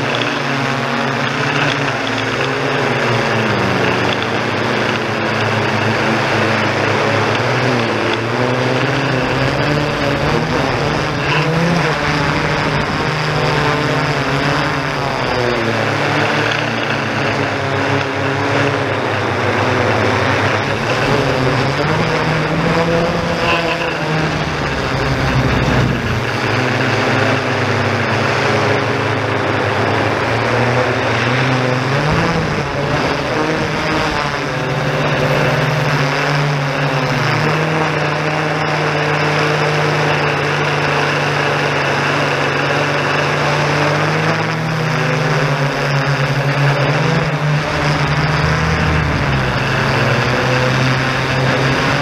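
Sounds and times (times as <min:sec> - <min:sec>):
drone motors and propellers humming: 0:00.0 - 0:52.0.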